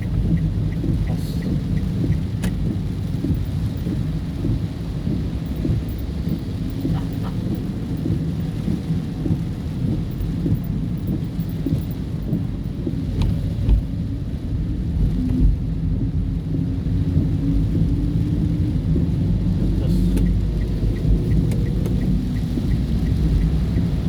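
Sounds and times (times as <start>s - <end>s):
car engine and road noise: 0.0s - 24.0s
rain on car body: 0.0s - 24.0s.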